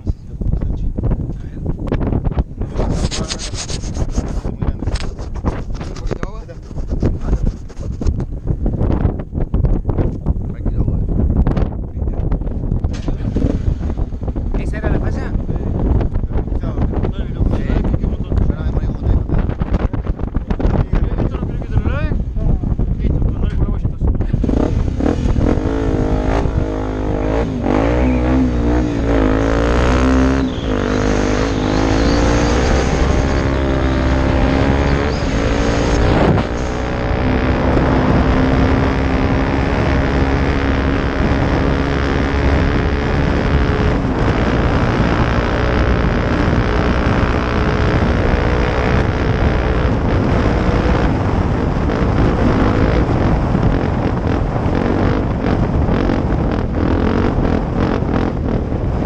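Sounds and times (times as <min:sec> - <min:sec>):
off-road motorcycle engine revving: 0:11.5 - 0:59.0.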